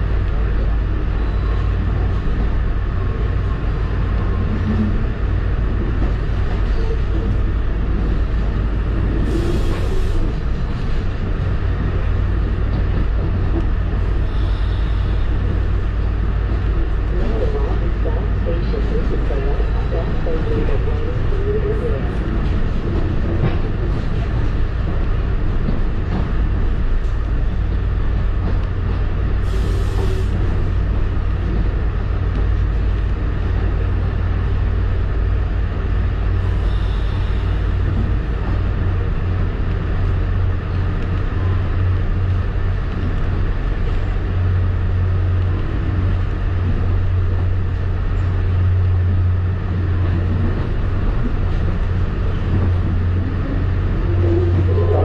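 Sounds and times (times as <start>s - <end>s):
train rumbling along track: 0.0s - 55.0s.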